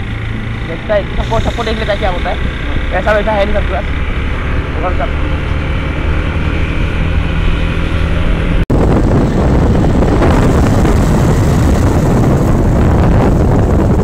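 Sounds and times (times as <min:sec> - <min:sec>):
motorcycle engine hum: 0:00.0 - 0:14.0
wind buffeting microphone: 0:00.0 - 0:14.0.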